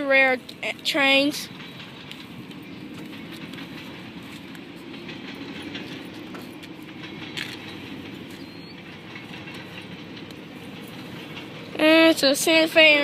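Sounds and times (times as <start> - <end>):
train wheels rumbling on rail: 0.0 - 13.0
wheels clicking over rail joints: 0.0 - 13.0.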